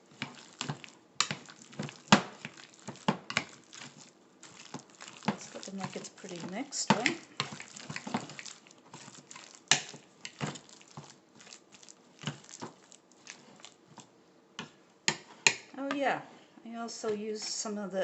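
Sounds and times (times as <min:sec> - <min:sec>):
dough squishing in a bowl: 0:00.0 - 0:16.2.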